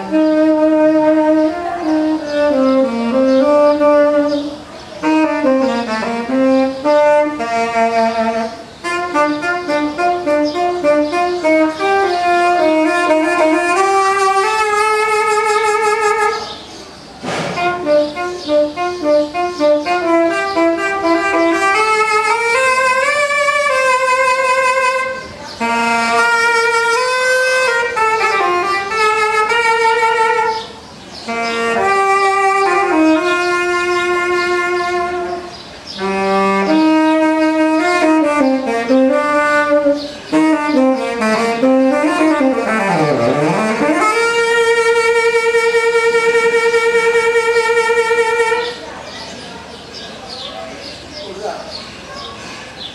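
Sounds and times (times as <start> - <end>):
solo saxophone jazzy melody: 0.0 - 16.7, 17.5 - 48.9.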